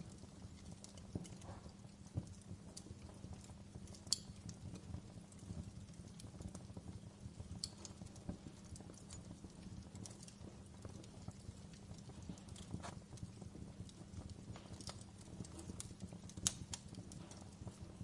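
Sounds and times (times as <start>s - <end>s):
low rumble of flame: 0.0s - 18.0s
wood fire crackling and popping: 0.0s - 18.0s.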